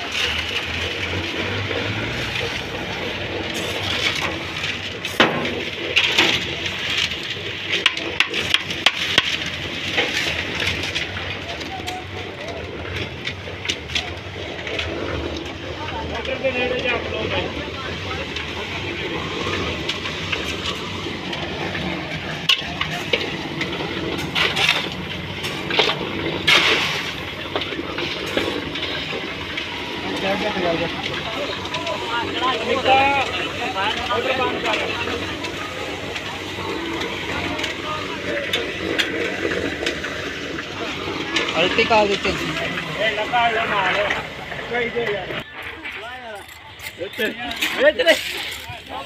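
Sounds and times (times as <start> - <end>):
shovels scraping gravel: 0.0 - 15.5, 17.0 - 49.0
concrete mixer churning stone: 0.0 - 49.0
outdoor ambient noise: 0.0 - 49.0.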